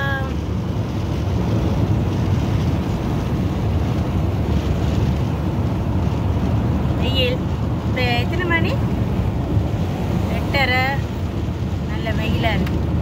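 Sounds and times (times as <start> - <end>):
car engine: 0.0 - 13.0
wind noise: 0.0 - 13.0.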